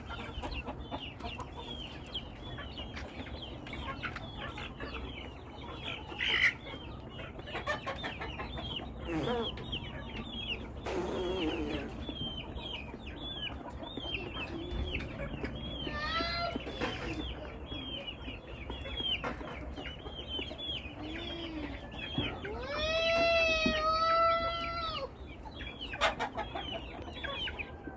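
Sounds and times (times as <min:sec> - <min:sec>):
chickens clucking: 0:00.0 - 0:27.9
chicks peeping: 0:00.0 - 0:27.9.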